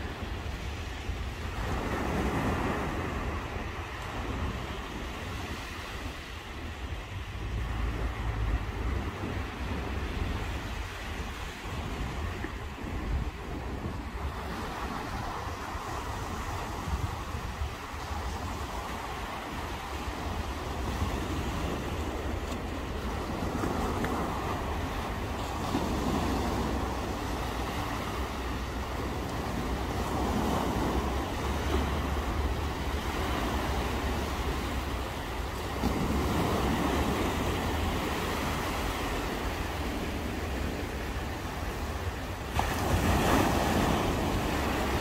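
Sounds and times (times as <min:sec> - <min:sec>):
sea surf washing onto beach: 0:00.0 - 0:45.0
wind rumbling on microphone: 0:00.0 - 0:45.0.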